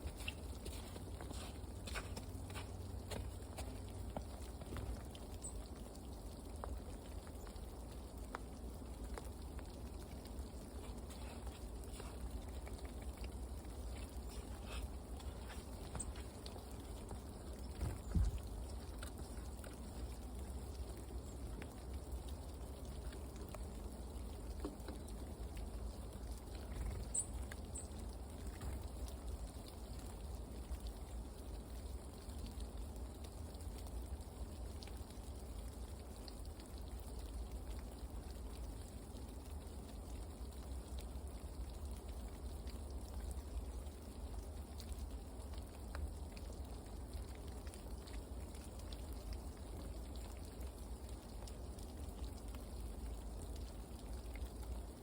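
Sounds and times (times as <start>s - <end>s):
light pattering rain: 0.0s - 55.0s.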